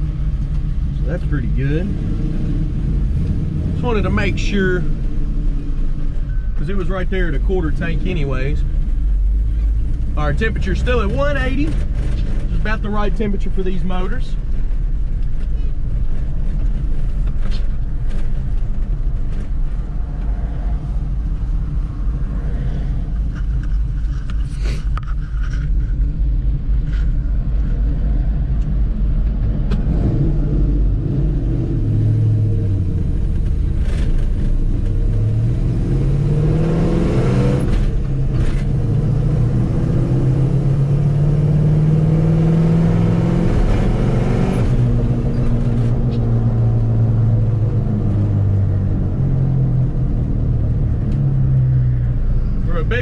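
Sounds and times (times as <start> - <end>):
truck engine rumbling: 0.0 - 53.0.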